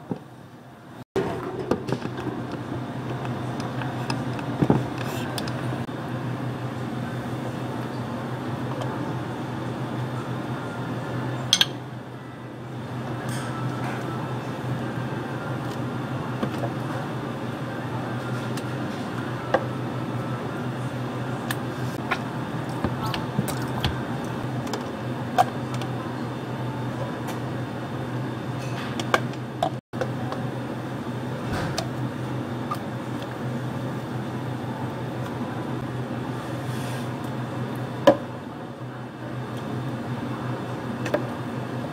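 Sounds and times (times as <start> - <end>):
low hum of equipment: 0.0 - 41.9.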